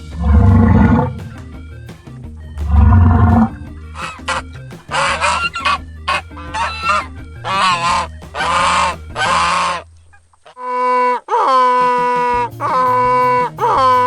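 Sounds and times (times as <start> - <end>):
geese honking: 2.6 - 14.0.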